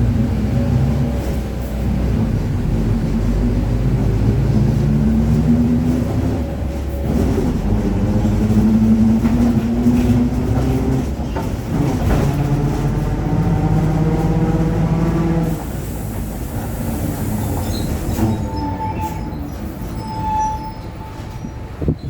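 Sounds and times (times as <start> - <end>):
bus diesel engine: 0.0 - 22.0.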